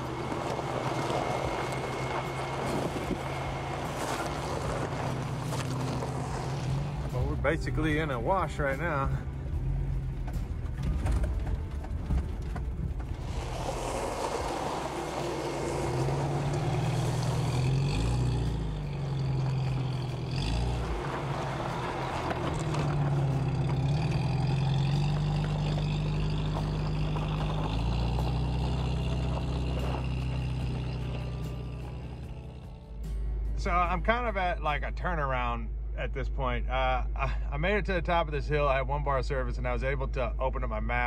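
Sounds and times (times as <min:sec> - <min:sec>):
car engine revving: 0:00.0 - 0:34.7.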